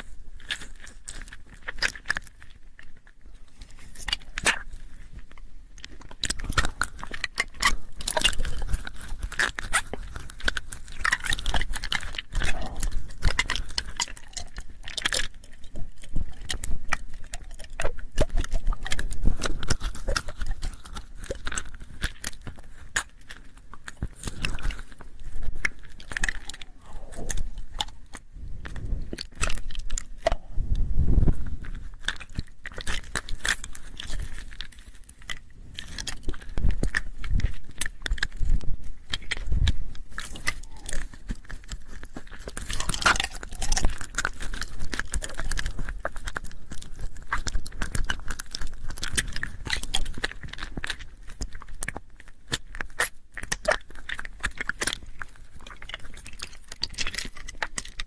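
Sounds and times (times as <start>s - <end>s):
mouth clicks and smacks: 0.0s - 58.0s.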